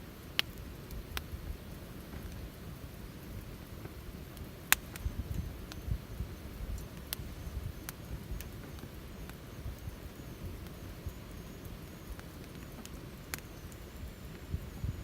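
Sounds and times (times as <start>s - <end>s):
campfire crackling: 0.0s - 15.0s
fire popping: 0.0s - 15.0s
steady low rumble: 0.0s - 15.0s.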